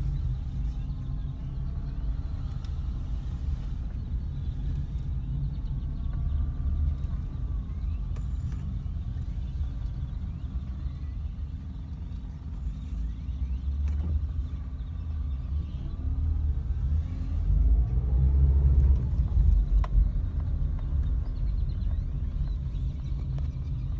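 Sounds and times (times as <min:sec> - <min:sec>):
low steady rumble: 0:00.0 - 0:23.9.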